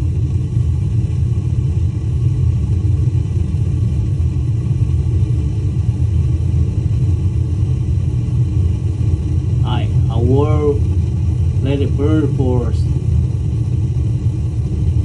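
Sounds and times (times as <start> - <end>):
gas burner rumbling: 0.0 - 15.0.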